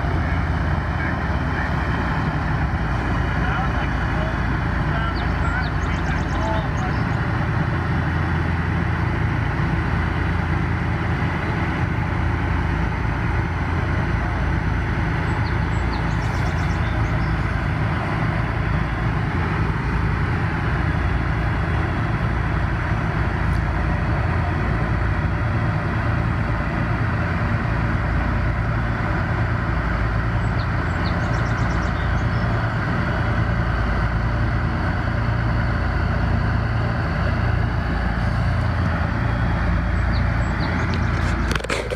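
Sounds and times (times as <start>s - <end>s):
heavy engine droning: 0.0s - 41.9s.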